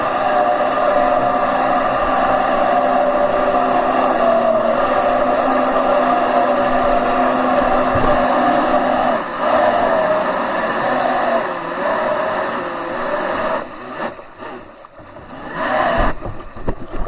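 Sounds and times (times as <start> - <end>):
jet boat motor whining: 0.0 - 17.0.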